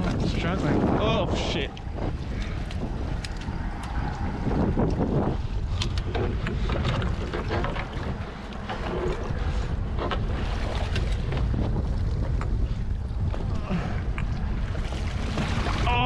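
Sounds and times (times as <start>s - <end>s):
sea water sloshing and splashing: 0.0s - 16.0s
wind buffeting microphone: 0.0s - 16.0s.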